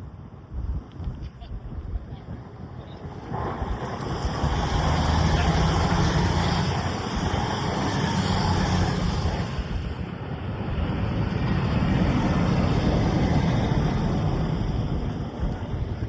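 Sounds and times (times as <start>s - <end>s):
steam locomotive passing: 3.0s - 16.0s.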